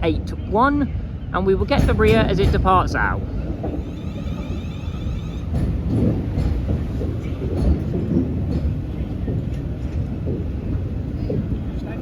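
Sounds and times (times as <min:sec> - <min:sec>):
train low rumble: 0:00.0 - 0:12.0
wheels clicking over rail joints: 0:01.6 - 0:12.0.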